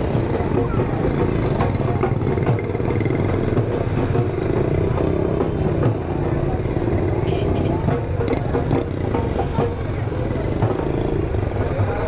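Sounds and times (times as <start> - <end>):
motorcycle engine running: 0.0 - 12.0
street clatter: 0.0 - 12.0.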